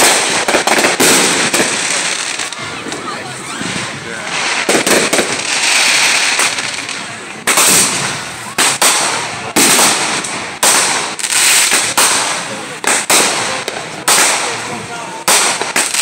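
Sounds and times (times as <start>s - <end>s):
fireworks bangs with echo: 0.0s - 16.0s
fireworks crackling: 0.0s - 16.0s.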